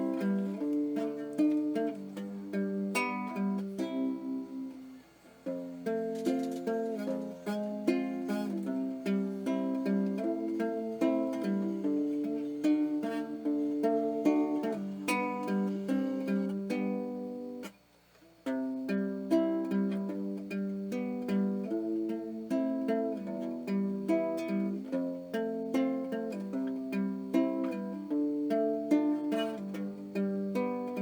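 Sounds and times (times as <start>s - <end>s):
plucked string music: 0.0s - 31.0s.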